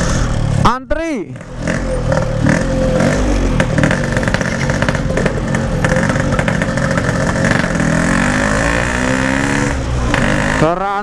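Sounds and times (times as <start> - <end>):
two-stroke motorcycle engine running: 1.3 - 11.0.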